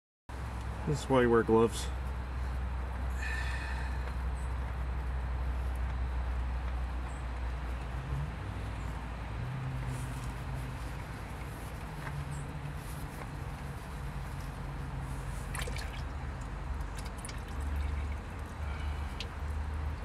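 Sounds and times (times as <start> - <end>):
low mechanical hum: 0.4 - 20.0.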